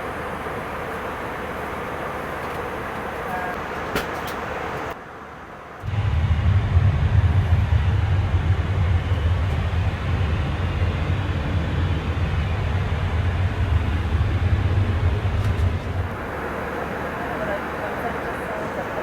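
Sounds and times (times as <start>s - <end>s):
airliner cabin rumble: 0.0s - 5.0s, 5.7s - 19.0s
hiss of engines and air: 0.0s - 19.0s.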